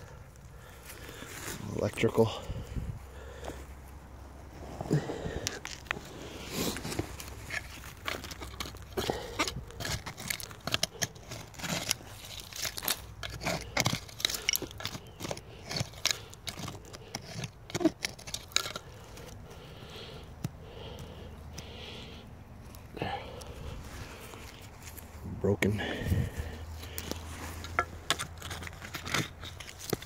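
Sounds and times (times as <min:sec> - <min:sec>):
digging in soil: 0:00.0 - 0:30.0.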